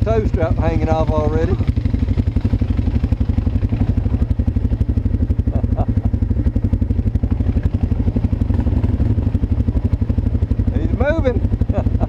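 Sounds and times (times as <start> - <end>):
engine throbbing close by: 0.0 - 12.0.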